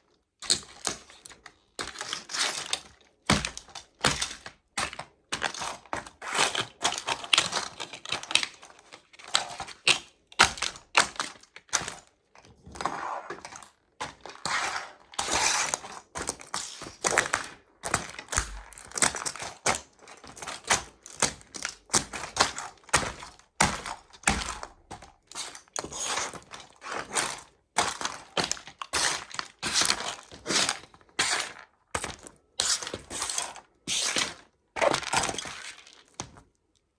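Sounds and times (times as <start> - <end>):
plastic toys cracking underfoot: 0.3 - 36.9.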